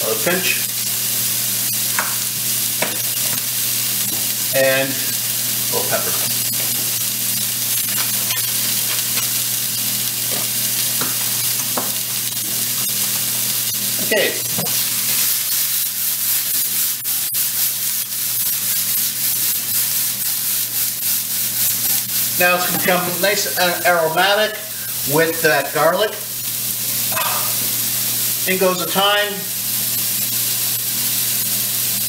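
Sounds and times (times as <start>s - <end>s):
vegetables sizzling in a frying pan: 0.0s - 32.0s.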